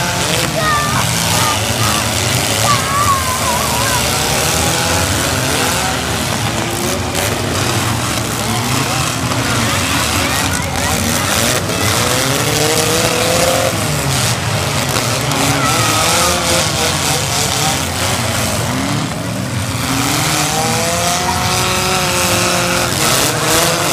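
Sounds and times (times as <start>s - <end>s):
cars revving hard: 0.0s - 23.9s
din of engines: 0.0s - 23.9s.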